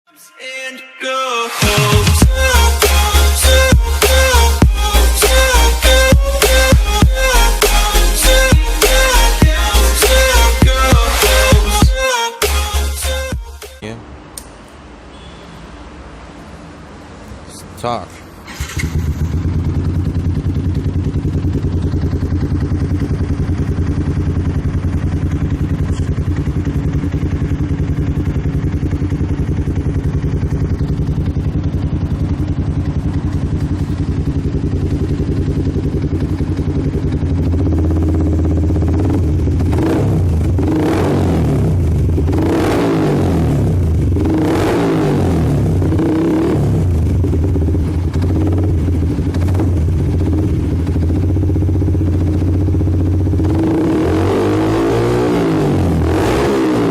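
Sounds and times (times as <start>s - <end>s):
motorcycle engine idling and revving: 2.0s - 13.5s, 18.4s - 56.9s.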